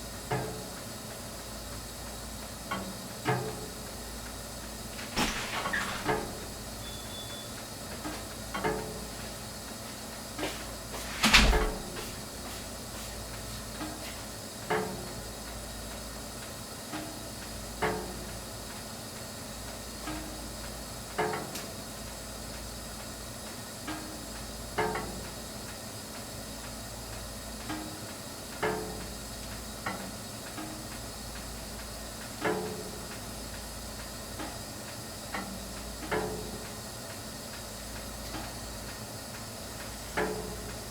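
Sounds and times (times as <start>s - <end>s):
gas water heater hissing: 0.0s - 40.9s.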